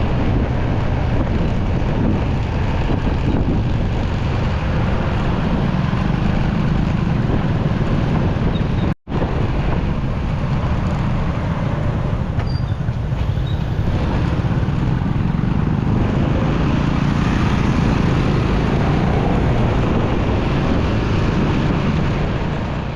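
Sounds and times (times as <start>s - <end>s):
motorcycle engine: 0.0s - 22.9s
wind on microphone: 0.0s - 22.9s.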